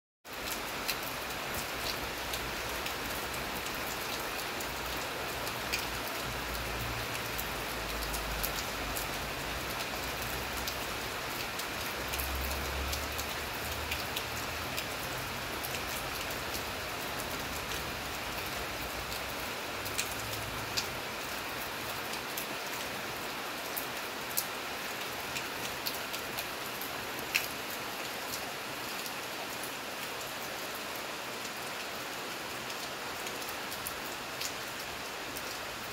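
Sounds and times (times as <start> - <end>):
raindrops ticking close by: 0.3 - 35.9
steady rain hiss: 0.3 - 35.9.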